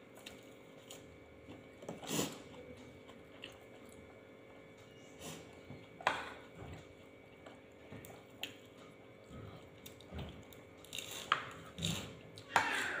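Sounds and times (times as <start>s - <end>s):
people chewing: 0.2s - 13.0s.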